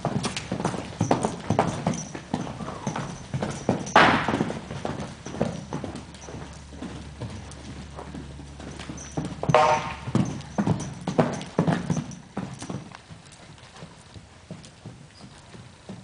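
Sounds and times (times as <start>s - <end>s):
hoofbeats on soft ground: 0.0s - 16.0s.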